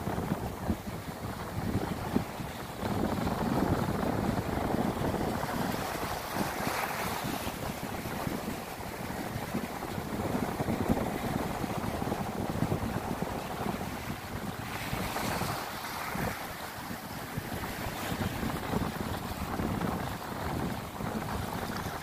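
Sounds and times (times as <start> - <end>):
small waves breaking on shore: 0.0 - 22.0
wind buffeting microphone: 0.0 - 22.0.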